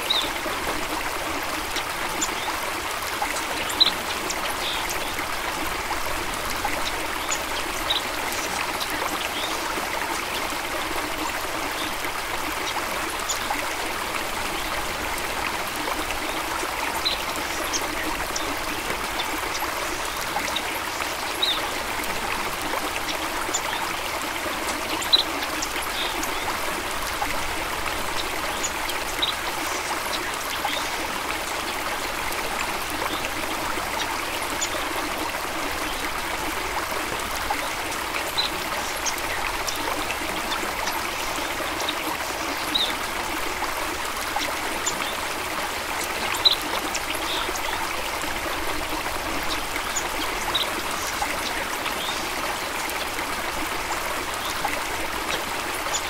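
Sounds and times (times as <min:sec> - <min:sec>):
water stream trickling: 0:00.0 - 0:56.0.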